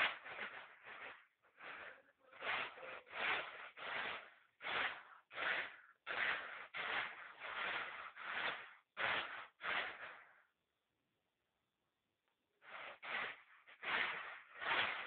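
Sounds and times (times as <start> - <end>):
grain rattling on winnowing tray: 0.0 - 10.4, 12.7 - 15.0.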